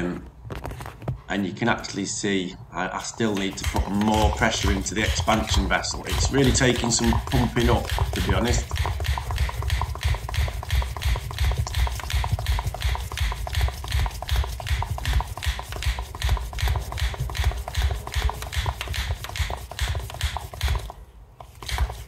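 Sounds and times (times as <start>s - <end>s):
hand air pump strokes: 3.0s - 22.0s.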